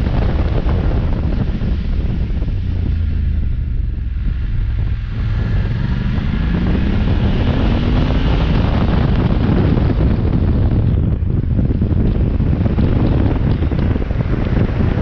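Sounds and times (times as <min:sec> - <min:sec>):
motorcycle engine accelerating: 0:00.0 - 0:15.0
wind noise on microphone: 0:00.0 - 0:15.0.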